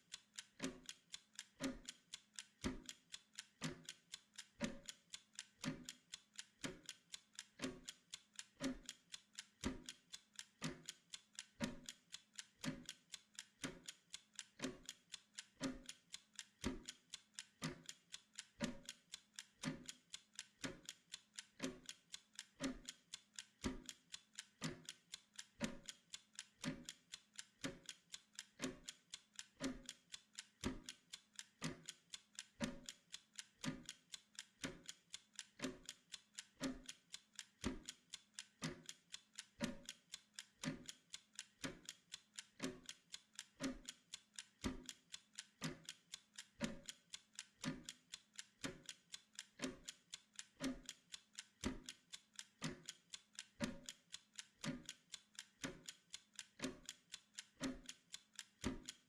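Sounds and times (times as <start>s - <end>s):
timer ticking: 0.0s - 59.0s.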